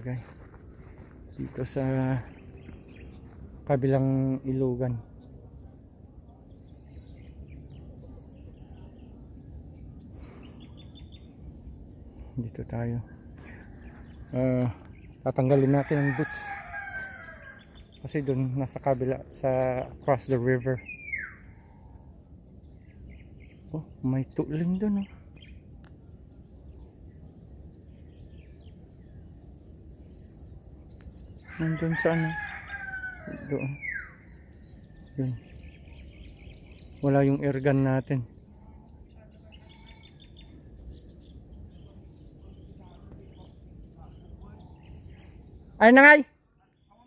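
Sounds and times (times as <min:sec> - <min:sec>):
bird chirps: 0:00.0 - 0:47.0
high insect drone: 0:00.0 - 0:47.0.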